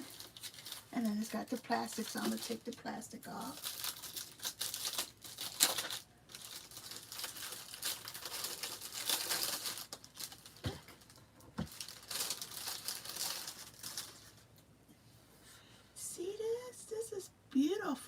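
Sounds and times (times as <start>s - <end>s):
plastic wrapping crinkling: 0.0s - 14.7s.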